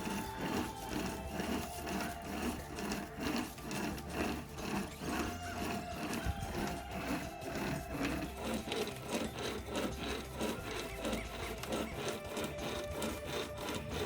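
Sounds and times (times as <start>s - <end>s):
saw chain rasping through wood: 0.0s - 14.0s.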